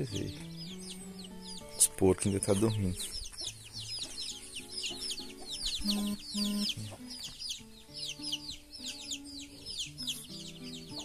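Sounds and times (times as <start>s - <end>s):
chicks peeping: 0.0s - 11.0s
music of sustained notes: 0.0s - 11.0s.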